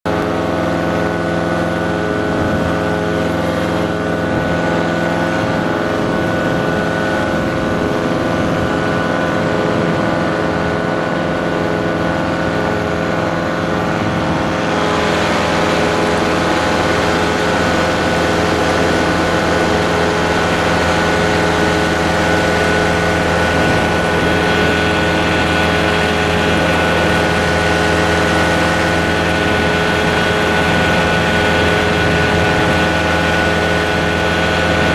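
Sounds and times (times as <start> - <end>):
paramotor engine droning: 0.1 - 34.9.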